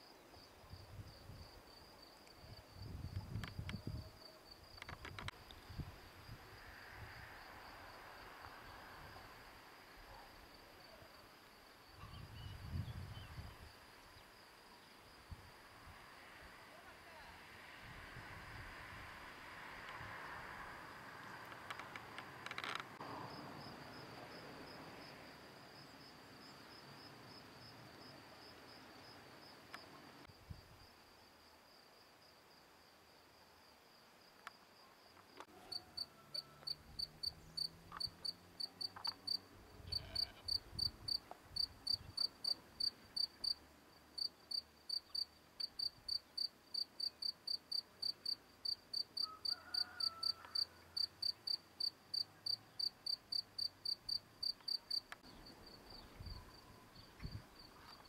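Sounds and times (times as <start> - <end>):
cricket trilling and chirping: 0.0 - 17.8, 18.8 - 58.0.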